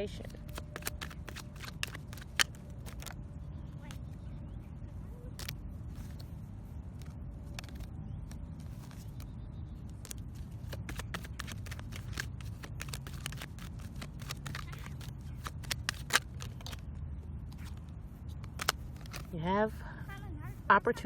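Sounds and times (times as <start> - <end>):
cards being shuffled: 0.0 - 4.2, 5.0 - 20.7
low steady rumble: 0.0 - 21.0.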